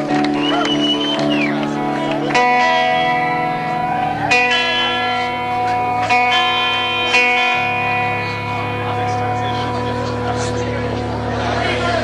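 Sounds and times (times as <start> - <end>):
bass guitar: 0.0 - 12.0
distorted electric guitar drone: 0.0 - 12.0.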